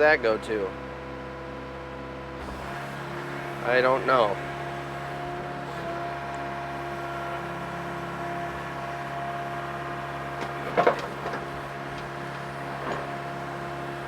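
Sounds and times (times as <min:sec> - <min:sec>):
excavator diesel engine humming: 0:02.4 - 0:14.0.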